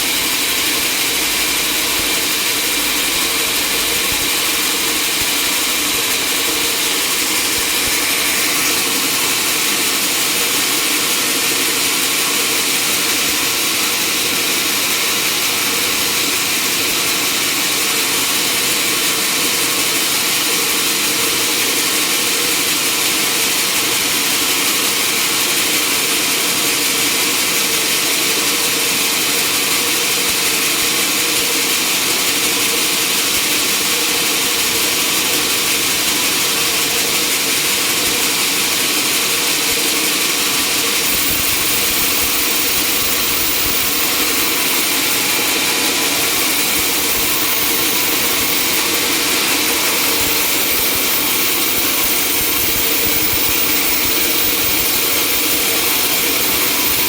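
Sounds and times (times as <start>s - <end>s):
sawmill machinery running: 0.0s - 23.4s, 29.5s - 57.0s.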